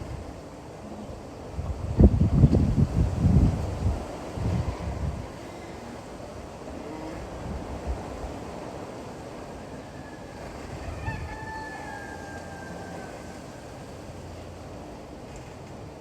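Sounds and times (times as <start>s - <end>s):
wind blowing: 0.0s - 16.0s.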